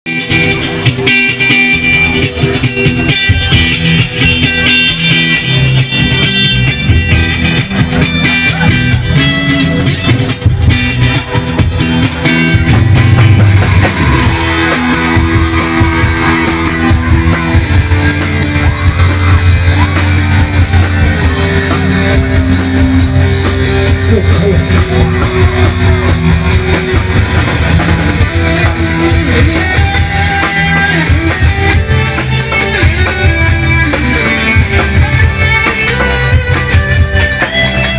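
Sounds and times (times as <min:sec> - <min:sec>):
live rock band playing: 0:00.0 - 0:37.9
drums and cymbals: 0:00.2 - 0:37.9.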